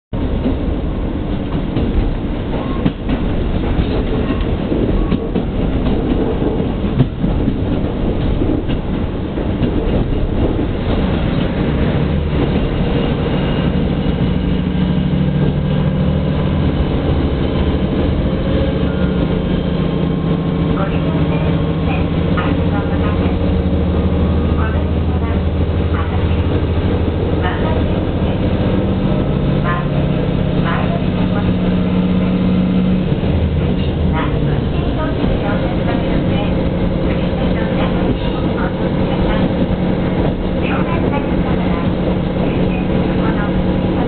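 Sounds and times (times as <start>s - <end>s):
train wheels rumbling on rail: 0.1s - 44.0s
diesel engine drone: 0.2s - 44.0s
rail joint clicks: 0.2s - 44.0s.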